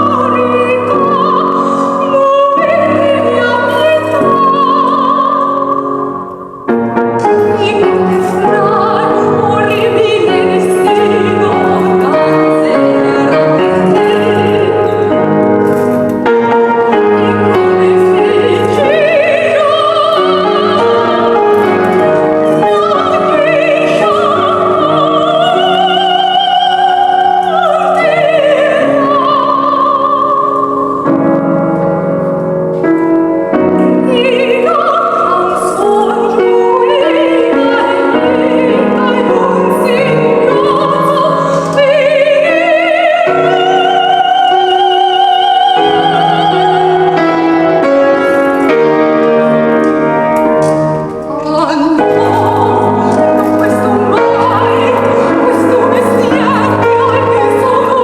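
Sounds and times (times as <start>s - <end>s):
piano accompaniment: 0.0s - 58.0s
soprano singing: 0.0s - 58.0s.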